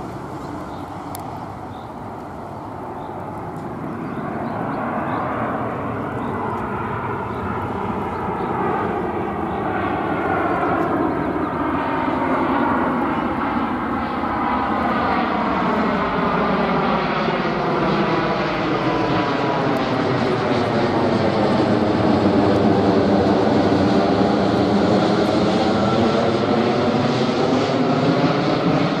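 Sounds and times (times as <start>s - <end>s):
jet airliner roar overhead: 0.0s - 29.0s.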